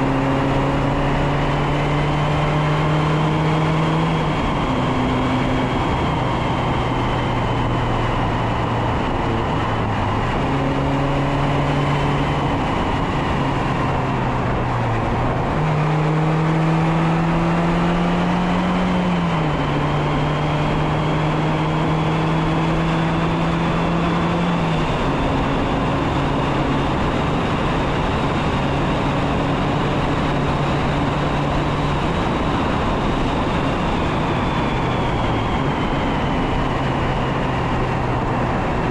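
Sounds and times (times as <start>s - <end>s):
car engine and exhaust: 0.0s - 38.9s
wind noise on microphone: 0.0s - 38.9s.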